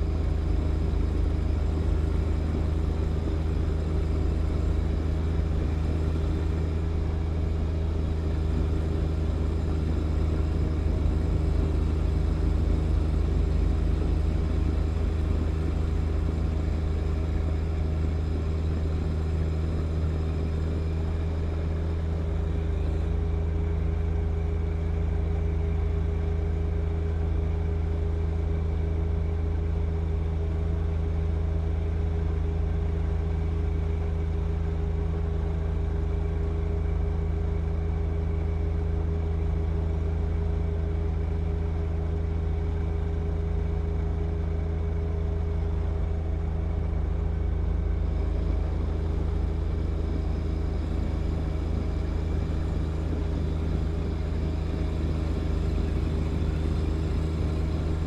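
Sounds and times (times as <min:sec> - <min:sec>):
diesel tractor engine droning: 0:00.0 - 0:58.0.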